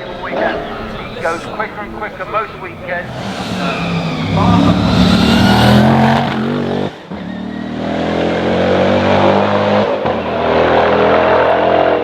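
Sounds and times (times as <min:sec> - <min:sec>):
racing car engine at high revs: 0:00.2 - 0:12.0.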